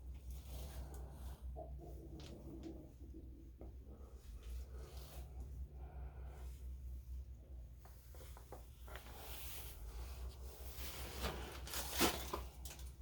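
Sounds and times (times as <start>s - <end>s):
furnace humming: 0.0s - 13.0s.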